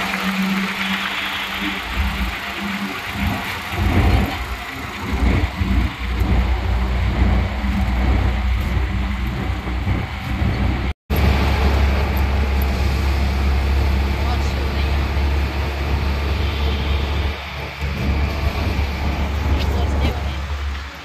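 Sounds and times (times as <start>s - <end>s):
auto-rickshaw engine rumble: 0.0s - 21.0s
road and wind noise: 0.0s - 21.0s
steady hum: 0.0s - 21.0s.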